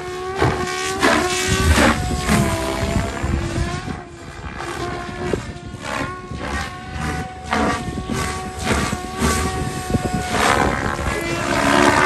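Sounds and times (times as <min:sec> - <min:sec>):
rc helicopter motor and rotor whine: 0:00.0 - 0:12.0.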